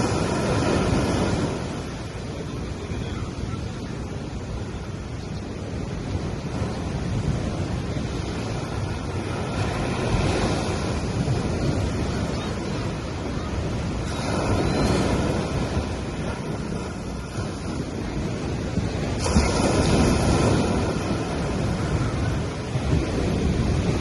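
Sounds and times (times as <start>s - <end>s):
sea waves breaking on beach: 0.0s - 24.0s
wind rumbling on microphone: 0.0s - 24.0s.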